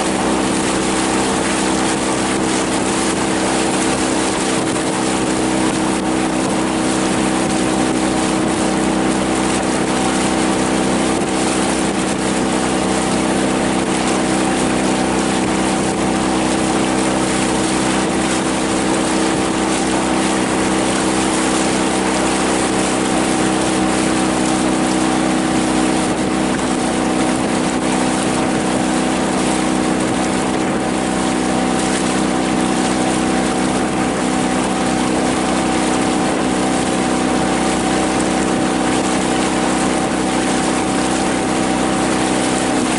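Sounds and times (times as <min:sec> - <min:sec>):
outboard motor droning: 0:00.0 - 0:42.9
wind and water rushing: 0:00.0 - 0:42.9.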